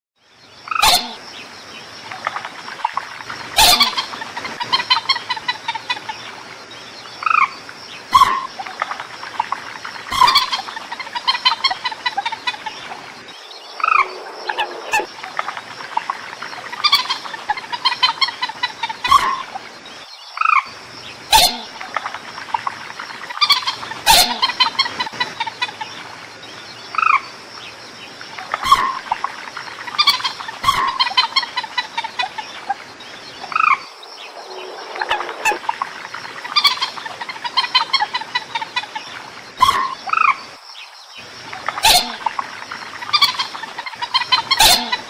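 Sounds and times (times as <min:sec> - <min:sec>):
faint high hiss: 0:00.3 - 0:45.0
moorhen clucking and croaking: 0:00.6 - 0:45.0.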